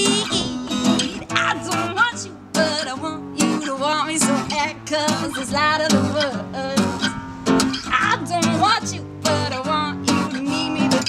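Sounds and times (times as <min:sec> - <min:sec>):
strummed acoustic guitar: 0:00.0 - 0:11.0
woman singing: 0:00.0 - 0:11.0.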